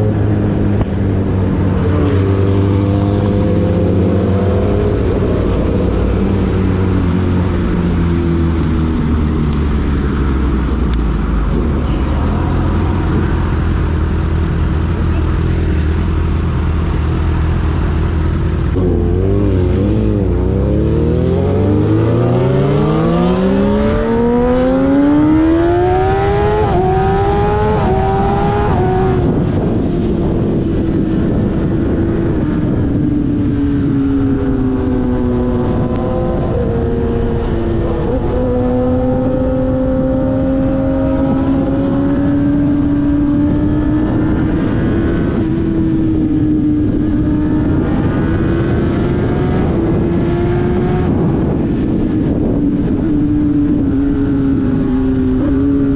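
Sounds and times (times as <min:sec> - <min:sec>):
motorcycle engine accelerating: 0:00.0 - 0:55.9
wind and road noise: 0:00.0 - 0:55.9.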